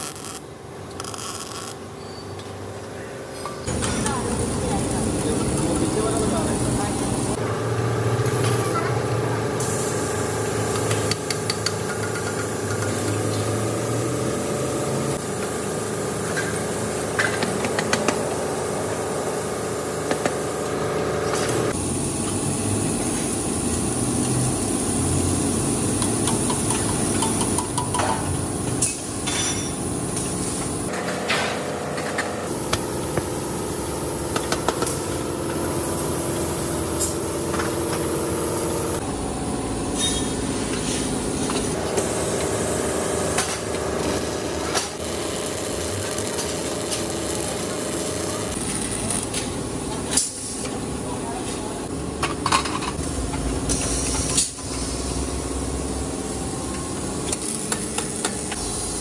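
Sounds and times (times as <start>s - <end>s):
workshop machinery humming: 0.0s - 59.0s.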